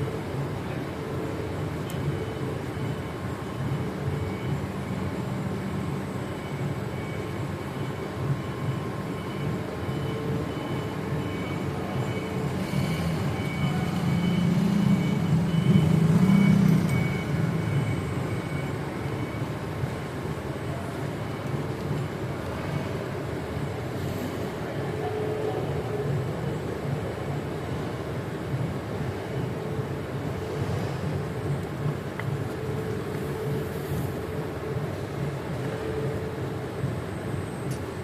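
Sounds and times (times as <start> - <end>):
faint steady tones: 0.0 - 38.0
low mechanical rumble: 0.0 - 38.0.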